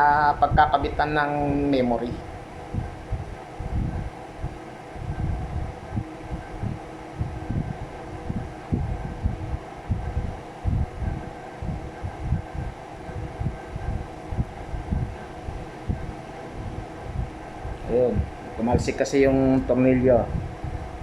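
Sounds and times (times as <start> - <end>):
steady hum: 0.0 - 21.0
microphone handling thumps: 1.4 - 19.4.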